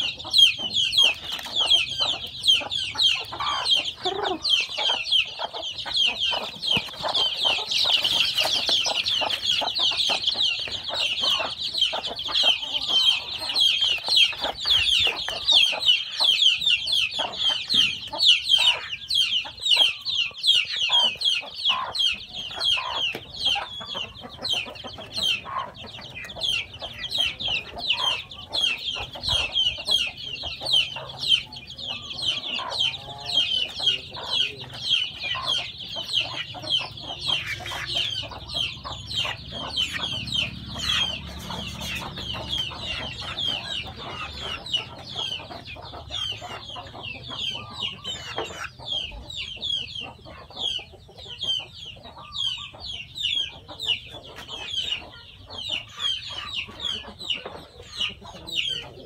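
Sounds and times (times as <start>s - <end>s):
chicks peeping: 0.0s - 59.0s
hen clucking: 0.0s - 59.0s.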